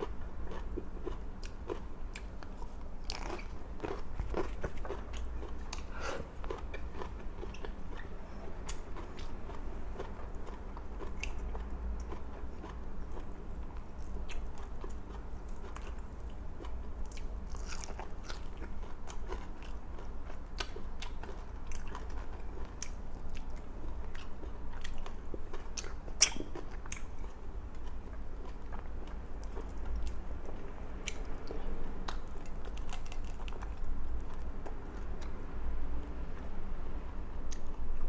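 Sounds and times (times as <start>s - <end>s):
person chewing and crunching food: 0.0s - 35.4s.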